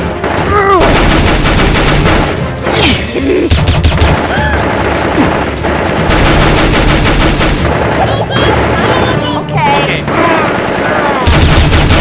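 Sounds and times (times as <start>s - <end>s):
background music: 0.0s - 12.0s
machine-gun fire bursts: 0.1s - 2.4s, 3.5s - 9.2s, 10.1s - 12.0s.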